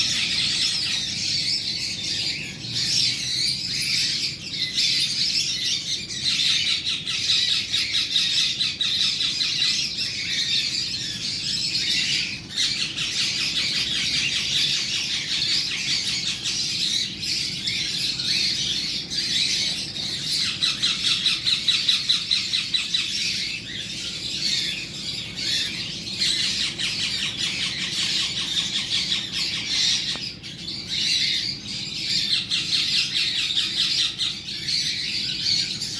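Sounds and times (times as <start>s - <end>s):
parrot squawking and chattering: 0.0s - 35.9s.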